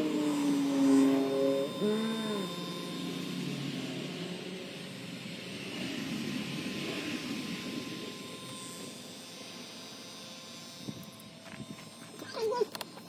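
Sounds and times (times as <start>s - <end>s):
smoke machine whirring hiss: 0.0s - 13.0s.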